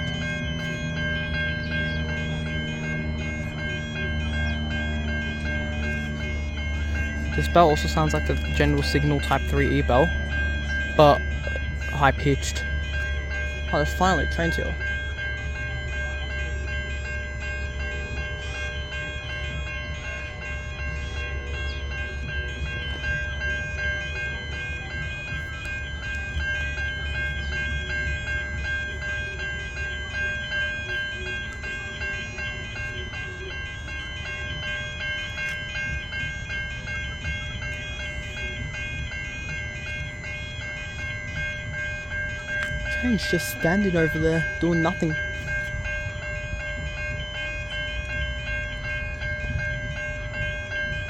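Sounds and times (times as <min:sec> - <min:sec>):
level crossing bells ringing: 0:00.0 - 0:51.0
train rumbling: 0:00.0 - 0:51.0.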